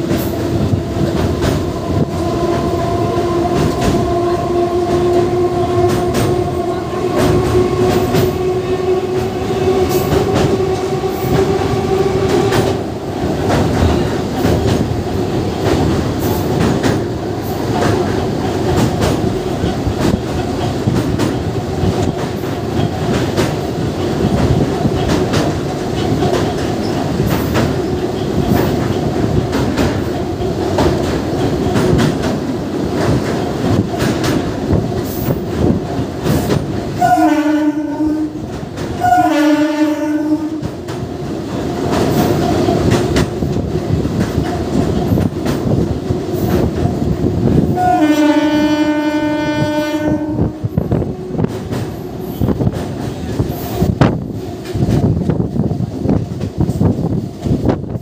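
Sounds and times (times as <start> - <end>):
train wheels clicking over rail joints: 0.0 - 37.2, 37.9 - 48.9, 49.6 - 58.0.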